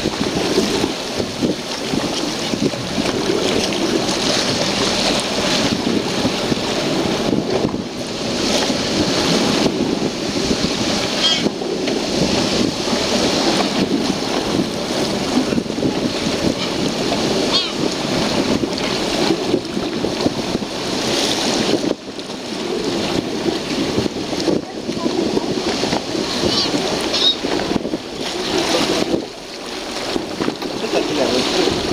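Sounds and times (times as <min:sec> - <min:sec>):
waves washing and breaking: 0:00.0 - 0:31.9
wind buffeting microphone: 0:00.0 - 0:31.9.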